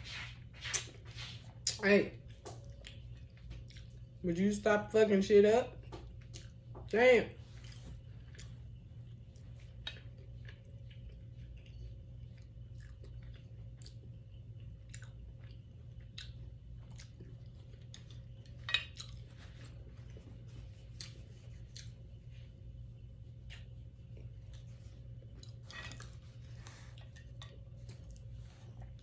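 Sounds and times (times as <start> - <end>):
low steady hum: 0.0 - 29.0
person chewing food: 0.3 - 4.2, 5.8 - 29.0.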